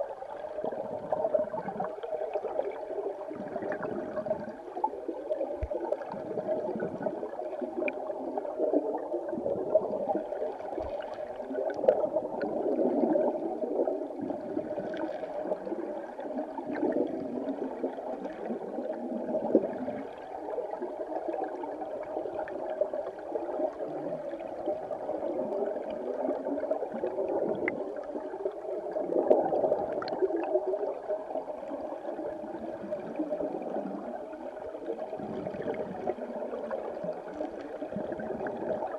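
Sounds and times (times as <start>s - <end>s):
underwater river gurgle: 0.0s - 38.9s.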